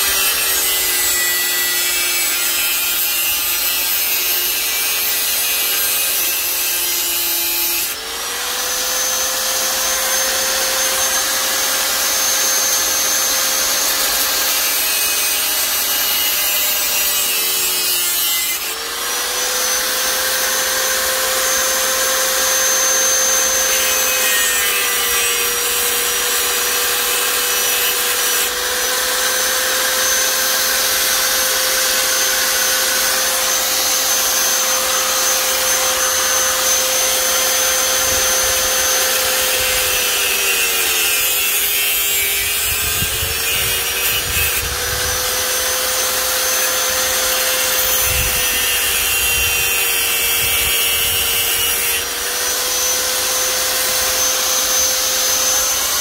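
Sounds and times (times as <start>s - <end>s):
electric power tool grinding: 0.0s - 56.0s.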